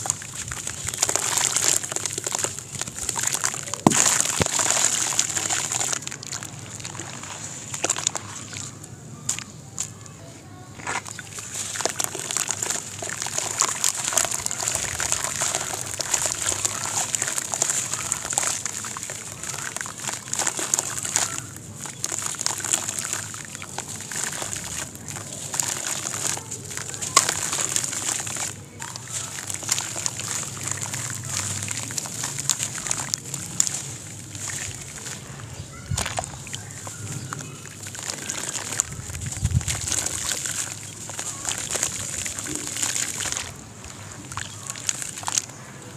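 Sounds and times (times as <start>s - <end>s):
block crumbling and crunching: 0.0s - 8.5s, 10.8s - 35.2s, 35.9s - 45.6s
water sloshing in basin: 0.0s - 10.1s, 10.8s - 45.6s
crumbs splashing in water: 0.0s - 45.9s.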